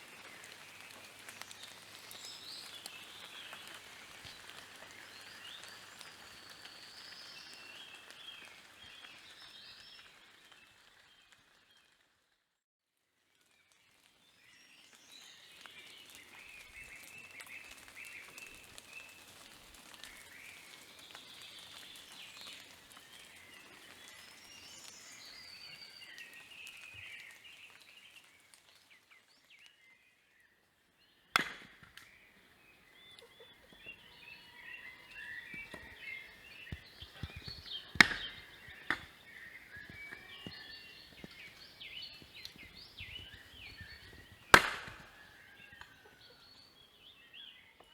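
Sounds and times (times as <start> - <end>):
birds chirping: 0.1 - 10.5, 14.4 - 47.9.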